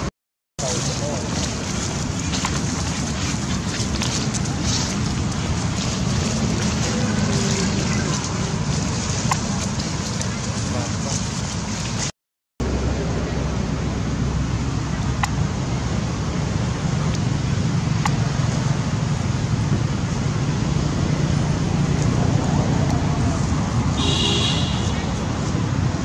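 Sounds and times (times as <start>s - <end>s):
low rumbling background noise: 0.6s - 26.0s.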